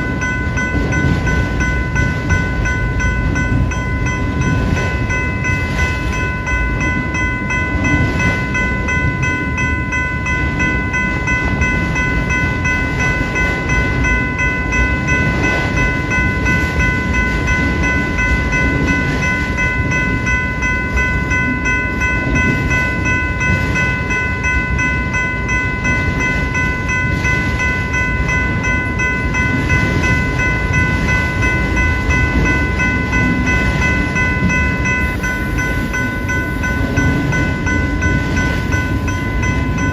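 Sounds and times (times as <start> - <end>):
crossing bells ringing: 0.0 - 39.9
train rumbling on rails: 0.0 - 39.9.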